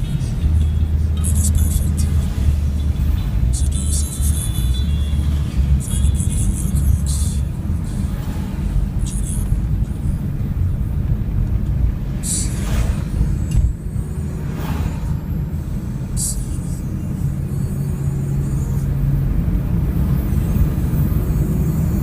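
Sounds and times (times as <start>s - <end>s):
car road and drivetrain rumble: 0.0s - 22.0s.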